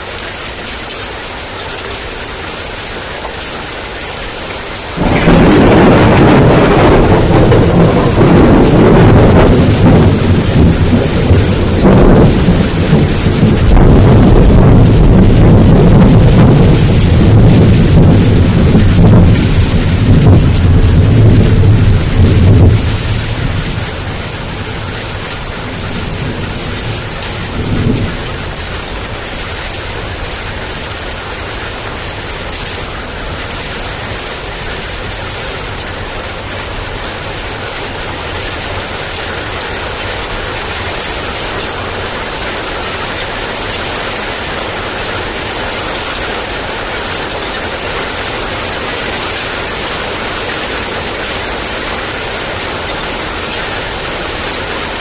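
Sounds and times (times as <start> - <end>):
heavy rain: 0.0 - 55.0
thunder rumbling: 3.9 - 55.0.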